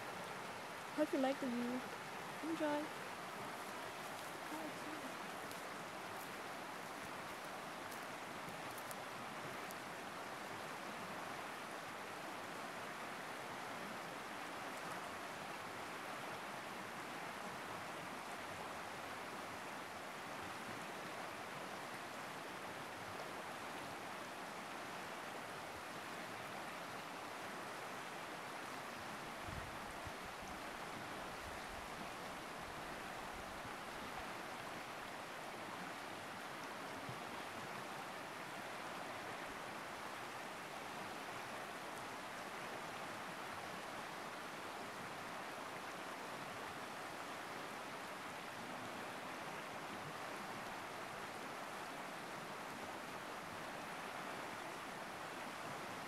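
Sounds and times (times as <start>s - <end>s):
river rushing over rapids: 0.0s - 56.0s.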